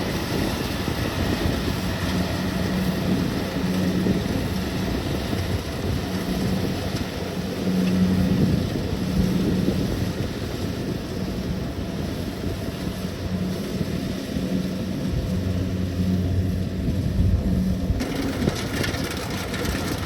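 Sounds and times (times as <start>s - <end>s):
combine harvester diesel engine: 0.0s - 20.0s.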